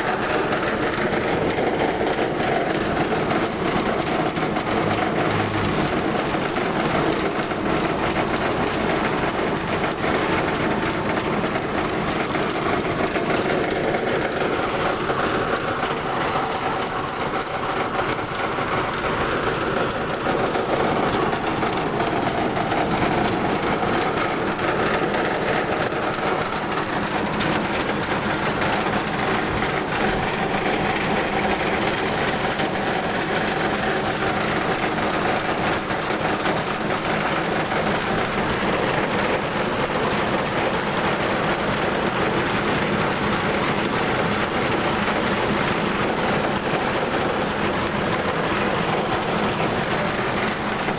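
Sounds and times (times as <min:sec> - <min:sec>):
rice huller machine running: 0:00.0 - 0:50.9.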